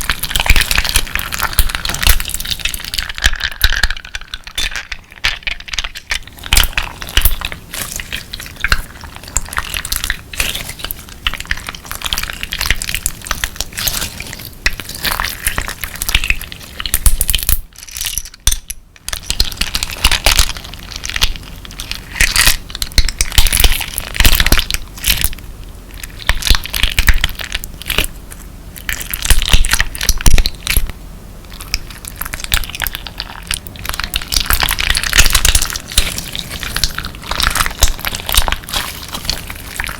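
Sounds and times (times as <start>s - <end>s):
slime crunching and crackling: 0.0s - 39.9s.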